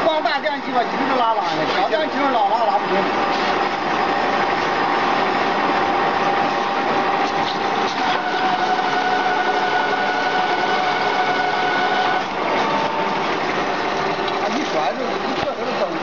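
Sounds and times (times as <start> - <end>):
higher machine whine: 0.0 - 16.0
machine running with whine: 0.0 - 16.0.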